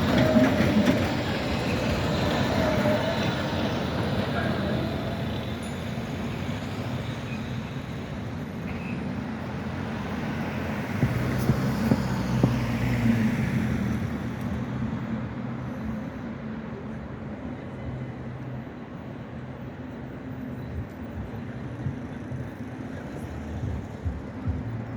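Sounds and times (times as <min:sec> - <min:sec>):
electric tram motor hum: 0:00.0 - 0:24.9.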